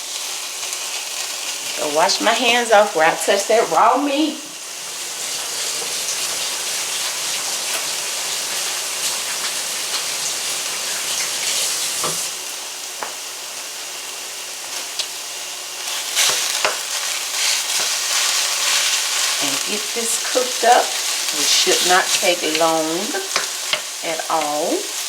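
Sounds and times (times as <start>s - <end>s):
meat sizzling in a skillet: 0.0s - 25.0s.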